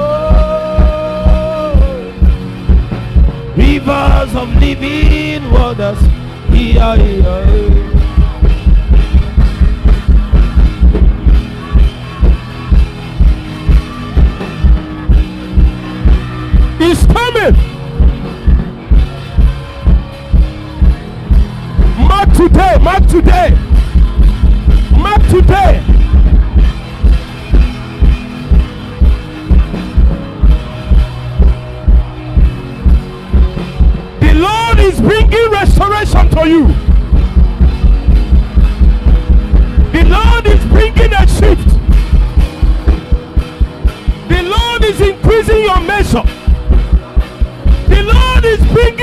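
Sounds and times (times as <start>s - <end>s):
heavy kick drum beat: 0.0s - 49.0s
instrumental music with drum kit: 0.0s - 49.0s.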